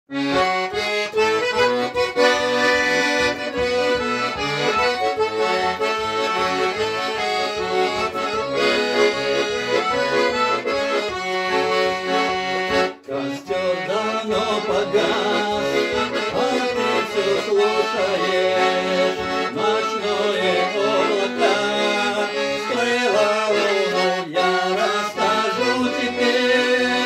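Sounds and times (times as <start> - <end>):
accordion playing: 0.1 - 27.0.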